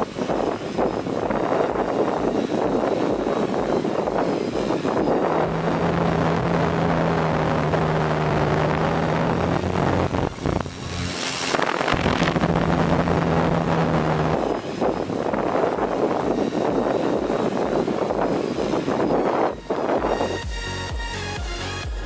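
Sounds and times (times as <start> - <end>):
wind buffeting microphone: 0.0 - 20.7
hexacopter low drone: 0.0 - 22.0.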